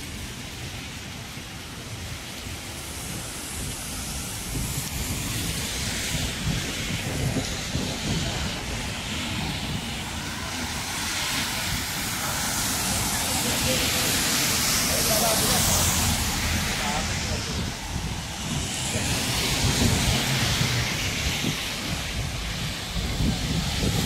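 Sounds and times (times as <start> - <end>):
low traffic rumble: 0.0 - 24.0
wet street traffic hiss: 0.0 - 24.0
wind on microphone: 0.0 - 24.0.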